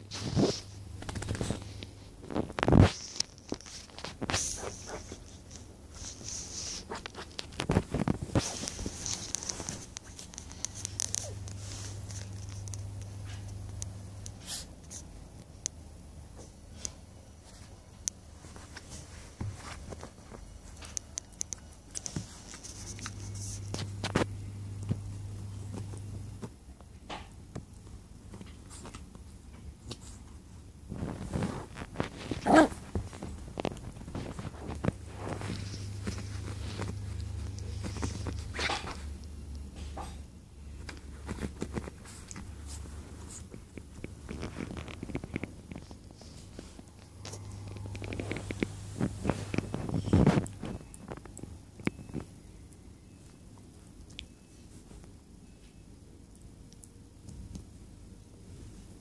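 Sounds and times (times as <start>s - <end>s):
puppy scratching and rustling cloth: 0.0s - 15.6s, 16.3s - 26.8s, 27.5s - 52.4s.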